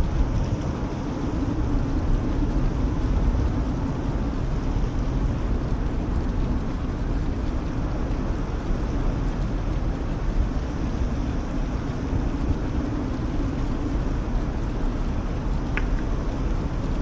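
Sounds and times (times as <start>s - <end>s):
fire whirl rumbling: 0.0s - 17.0s
wind noise on microphone: 0.0s - 17.0s.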